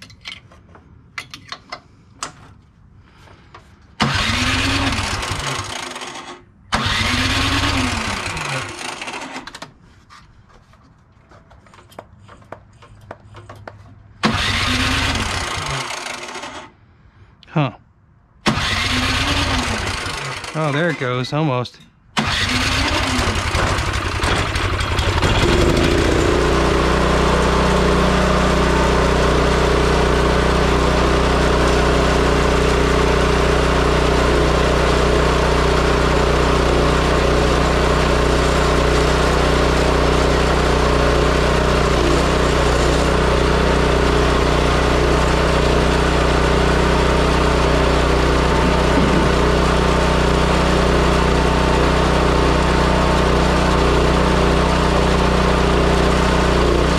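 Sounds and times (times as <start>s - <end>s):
snowblower engine running: 3.1s - 9.7s, 14.1s - 16.9s, 18.5s - 21.6s, 22.2s - 56.9s.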